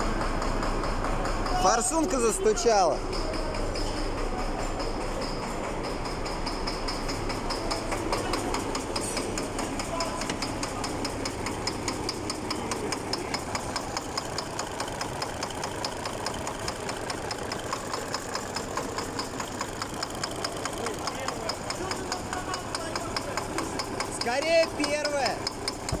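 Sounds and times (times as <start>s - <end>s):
diesel engine idling: 0.0s - 26.0s
fuel injector knocking: 0.0s - 26.0s.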